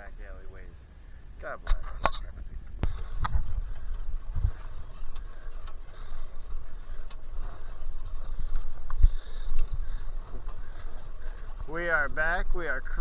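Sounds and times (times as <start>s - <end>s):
wind buffeting microphone: 0.0s - 13.0s
bike rattling clicks and knocks: 1.7s - 13.0s.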